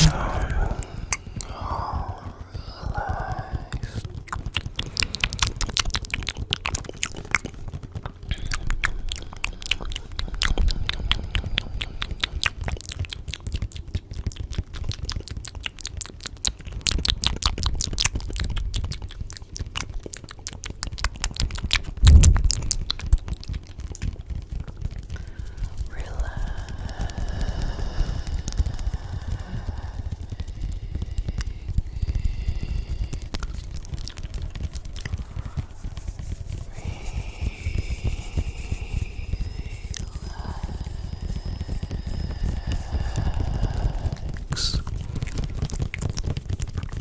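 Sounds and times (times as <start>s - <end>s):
rapid crisp clicks and crackles: 0.0s - 47.0s.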